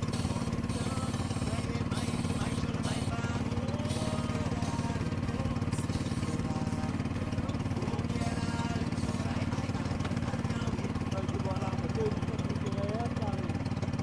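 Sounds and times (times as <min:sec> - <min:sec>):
small engine running: 0:00.0 - 0:14.0
faint music: 0:00.1 - 0:13.5.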